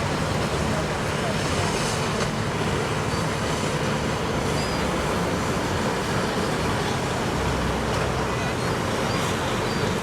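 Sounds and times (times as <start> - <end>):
engine rumble: 0.0 - 10.0
water rushing: 0.0 - 10.0.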